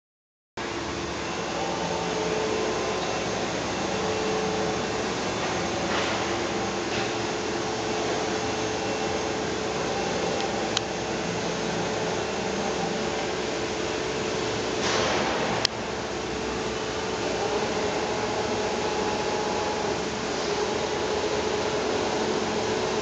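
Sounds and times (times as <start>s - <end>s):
machine whirring and humming: 0.6s - 23.0s.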